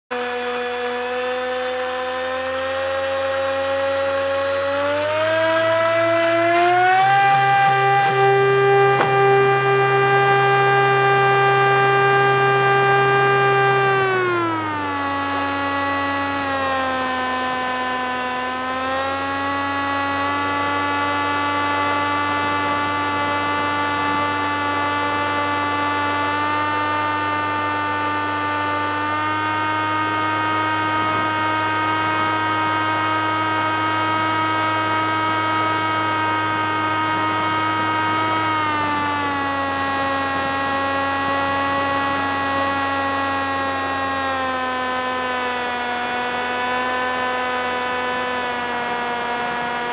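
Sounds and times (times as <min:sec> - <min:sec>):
model plane motor whine: 0:00.1 - 0:49.9.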